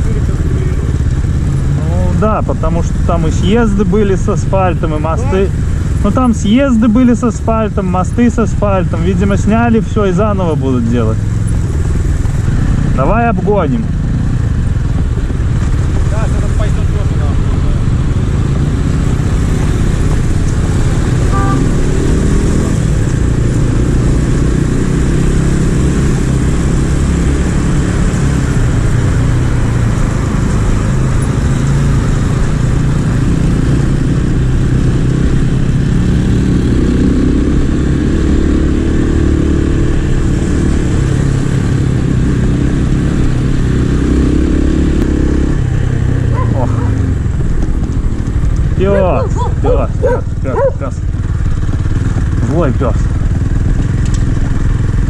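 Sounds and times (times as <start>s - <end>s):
motorcycle engine revving: 0.0s - 55.0s
road noise on gravel: 0.0s - 55.0s.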